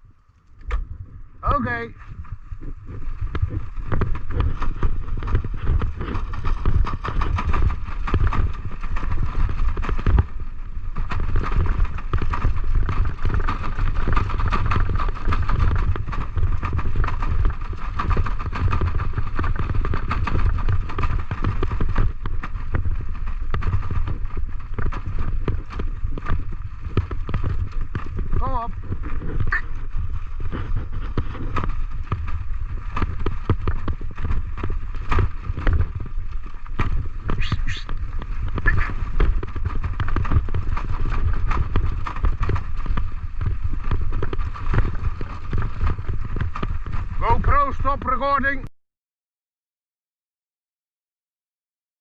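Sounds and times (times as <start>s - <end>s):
wind buffeting microphone: 0.0s - 48.6s
rig rolling rumble: 0.0s - 48.7s
wheels and paws pattering on path: 0.0s - 48.7s.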